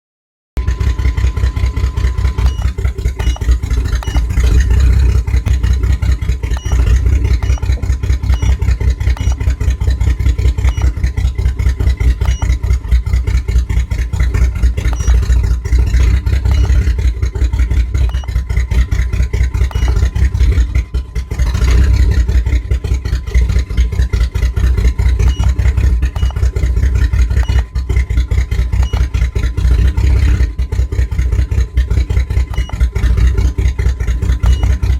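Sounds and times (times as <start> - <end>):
engine running with misfire: 0.6 - 34.9.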